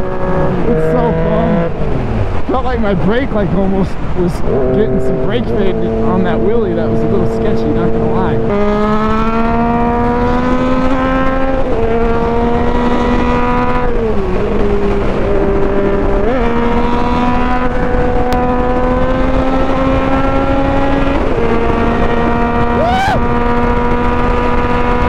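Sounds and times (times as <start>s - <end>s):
motorcycle engine revving: 0.0s - 25.0s
wind rush on microphone: 0.0s - 25.0s.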